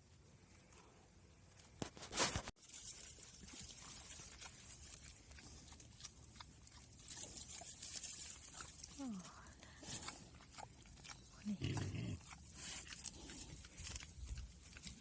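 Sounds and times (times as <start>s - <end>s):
crunching and crackling: 0.5s - 15.0s.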